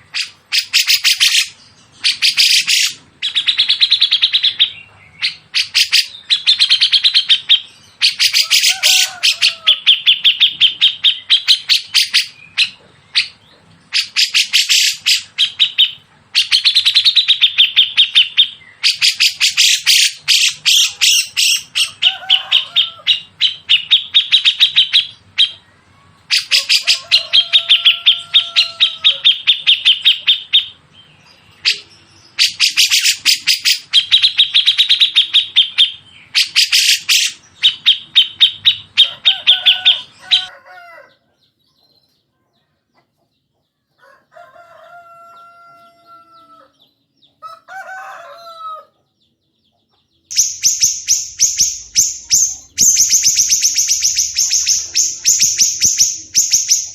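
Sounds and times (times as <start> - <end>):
songbird chattering: 0.0 - 47.9, 49.0 - 56.9.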